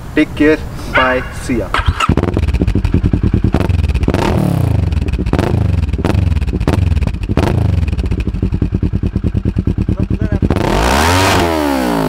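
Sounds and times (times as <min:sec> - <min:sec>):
motorcycle engine idling and revving: 0:01.0 - 0:12.0.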